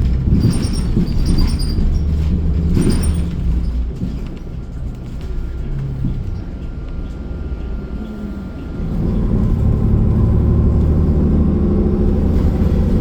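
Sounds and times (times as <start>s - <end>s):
bus engine drone from inside: 0.0s - 13.0s.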